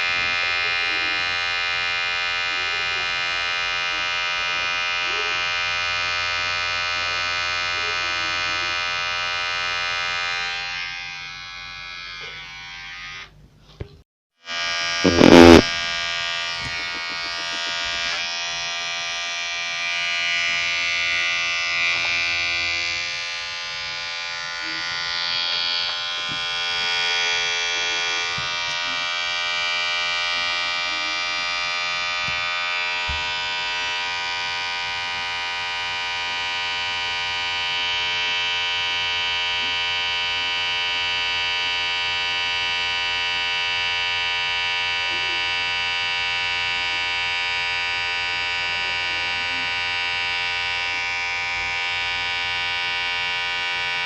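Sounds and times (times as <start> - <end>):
electric hair clipper buzzing: 0.0 - 13.4, 14.4 - 54.0.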